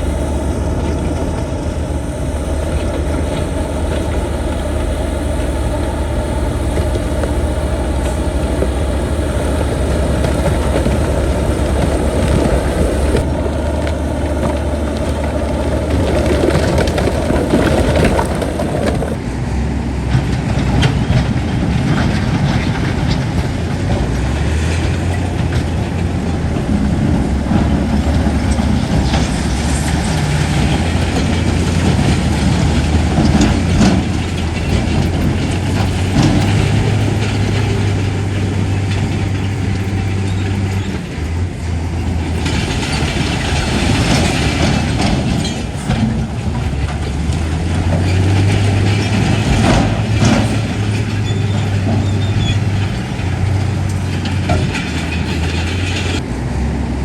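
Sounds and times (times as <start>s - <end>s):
steel tracks clattering: 0.0s - 19.2s, 20.1s - 56.4s
bulldozer diesel engine: 0.0s - 57.0s.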